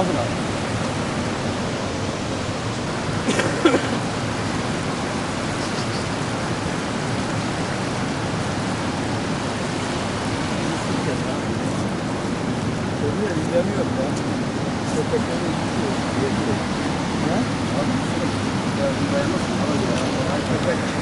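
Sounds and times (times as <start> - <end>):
fast-flowing river water rushing: 0.0 - 21.0.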